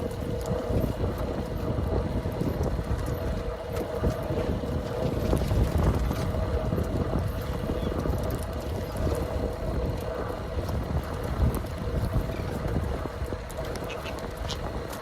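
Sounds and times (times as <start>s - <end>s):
steady hum: 0.0s - 15.0s
wind buffeting microphone: 0.0s - 15.0s.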